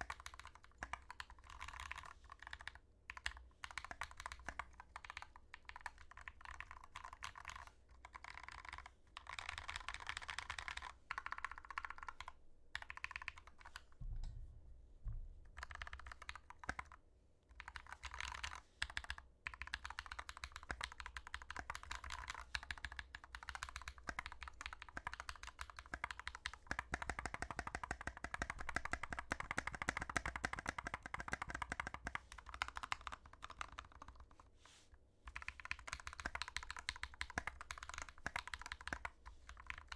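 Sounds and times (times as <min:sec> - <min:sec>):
mechanical keyboard typing: 0:00.0 - 0:13.9, 0:15.6 - 0:34.4, 0:35.3 - 0:39.9.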